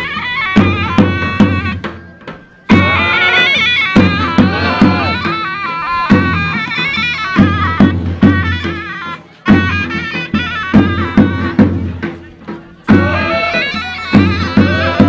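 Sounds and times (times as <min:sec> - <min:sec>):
drum strokes: 0:00.0 - 0:15.0
reedy wind instrument melody: 0:00.0 - 0:15.0.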